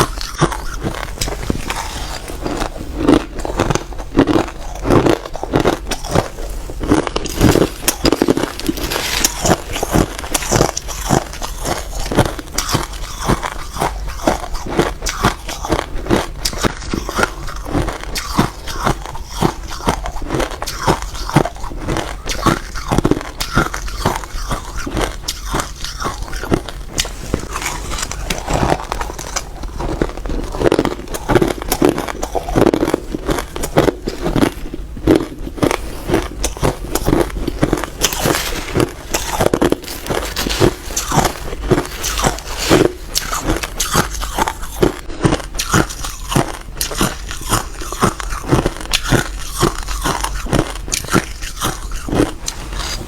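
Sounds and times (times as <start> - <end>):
ice cubes crunching while chewed: 0.0 - 53.0.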